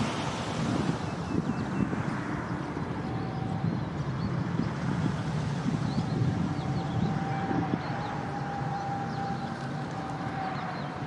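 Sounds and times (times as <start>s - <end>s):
distant jet engines running: 0.0s - 11.0s.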